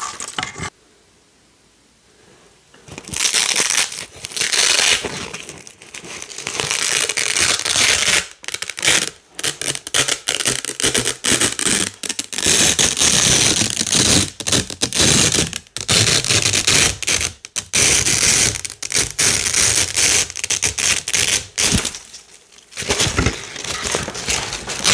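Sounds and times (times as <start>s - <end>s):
velcro strips ripping apart: 3.0s - 22.1s, 22.7s - 24.9s.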